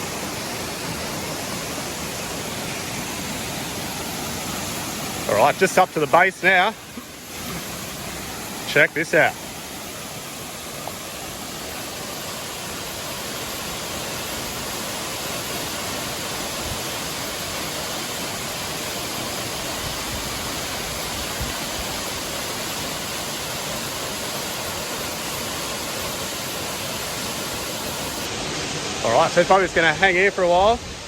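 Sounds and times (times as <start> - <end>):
waterfall crashing into pool: 0.0 - 31.0.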